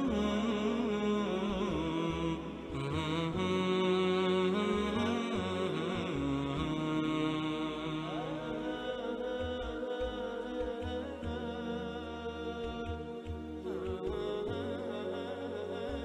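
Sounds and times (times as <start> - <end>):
voice chanting long notes: 0.0 - 16.0.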